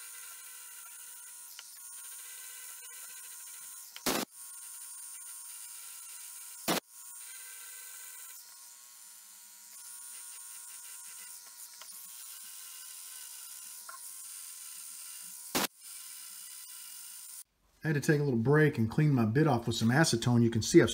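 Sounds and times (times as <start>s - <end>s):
rotary tool grinding resin: 0.0s - 17.5s.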